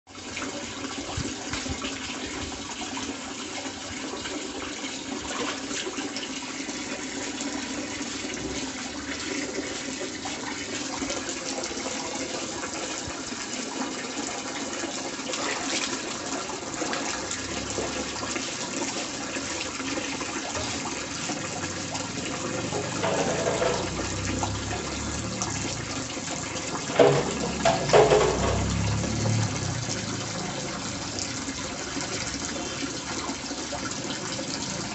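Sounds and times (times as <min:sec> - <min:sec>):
tap water running into basin: 0:00.1 - 0:34.9.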